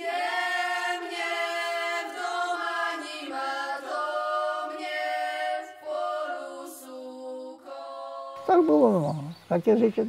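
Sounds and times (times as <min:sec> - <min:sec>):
unaccompanied choir singing: 0:00.0 - 0:08.9.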